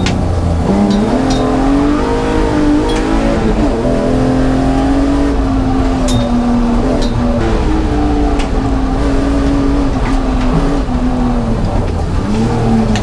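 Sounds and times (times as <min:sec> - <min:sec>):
car engine at speed: 0:00.0 - 0:13.0.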